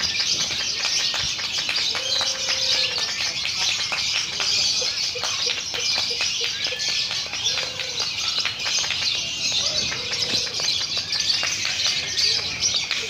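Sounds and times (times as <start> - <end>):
lovebirds chirping and chattering: 0.0 - 13.0.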